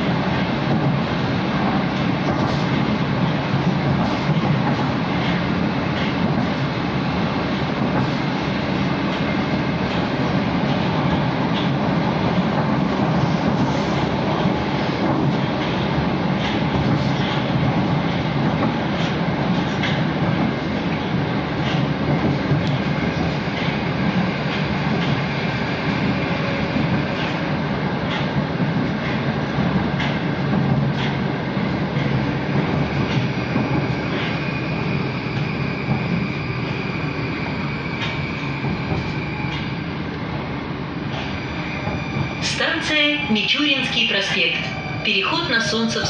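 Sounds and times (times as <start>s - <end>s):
train rushing through tunnel: 0.0s - 46.0s.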